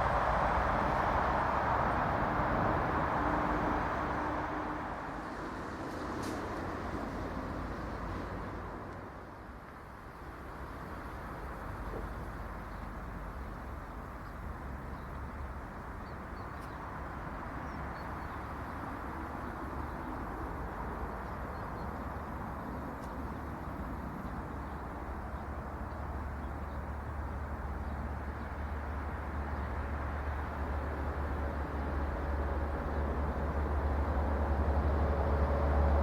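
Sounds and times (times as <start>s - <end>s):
wind and road noise: 0.0s - 36.0s.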